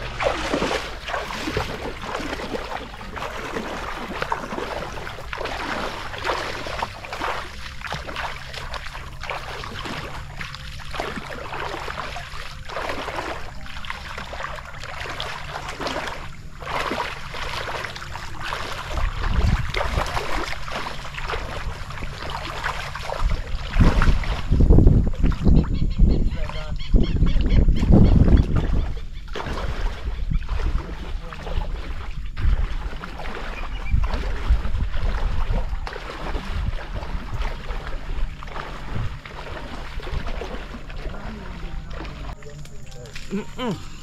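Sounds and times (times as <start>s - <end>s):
low rumble on microphone: 0.0s - 13.9s, 14.6s - 44.0s
water sloshing and splashing: 0.0s - 44.0s.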